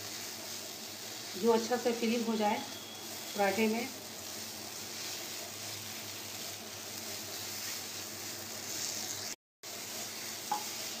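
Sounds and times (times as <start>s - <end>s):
vegetable sizzling in a pan: 0.0s - 11.0s.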